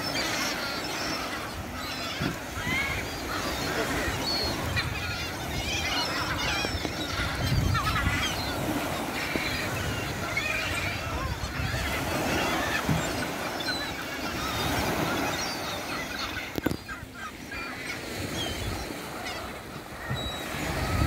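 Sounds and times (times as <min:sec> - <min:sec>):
surf rumbling: 0:00.0 - 0:17.2
gulls calling: 0:00.0 - 0:21.0.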